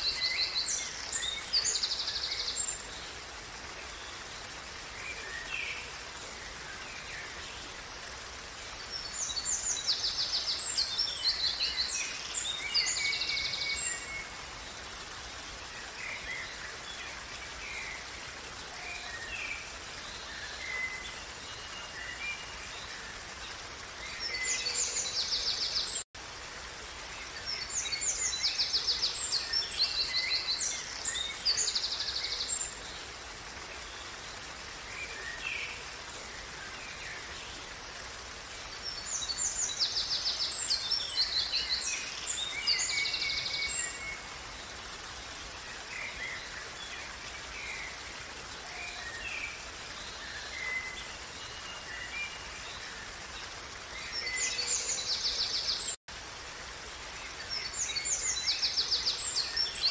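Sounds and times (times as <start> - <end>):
stream running water: 0.0 - 59.9.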